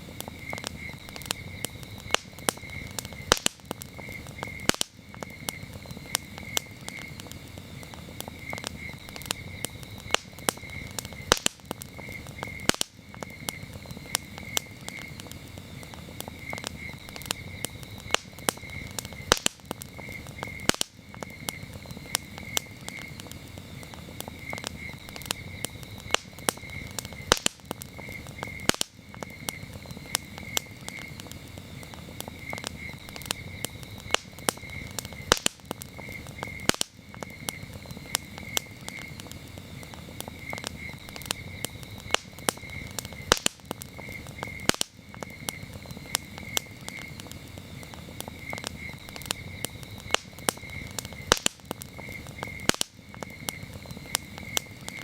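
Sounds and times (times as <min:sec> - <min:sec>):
campfire crackling: 0:00.0 - 0:55.0
crickets chirping: 0:00.0 - 0:55.0.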